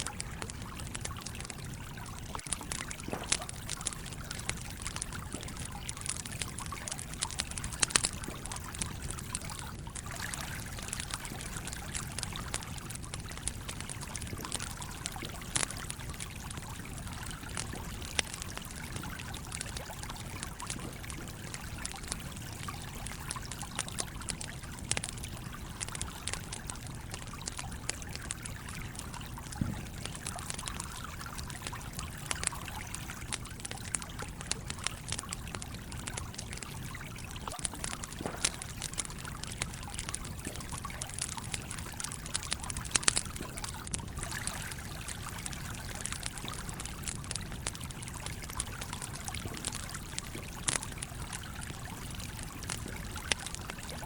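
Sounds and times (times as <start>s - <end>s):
campfire crackling: 0.0s - 54.0s
stream water trickling: 0.0s - 54.0s.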